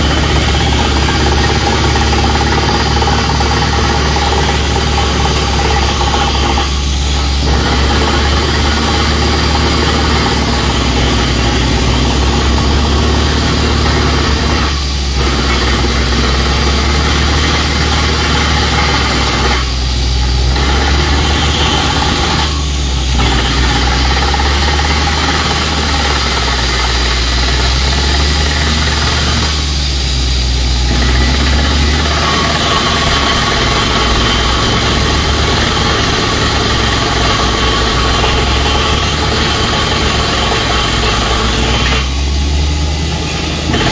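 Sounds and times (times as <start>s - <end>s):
drilling rig diesel engine drone: 0.0s - 43.9s.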